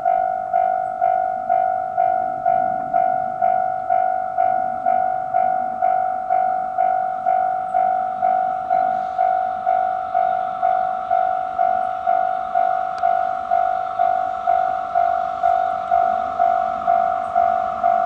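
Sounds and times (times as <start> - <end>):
level-crossing bell ringing: 0.0 - 18.0.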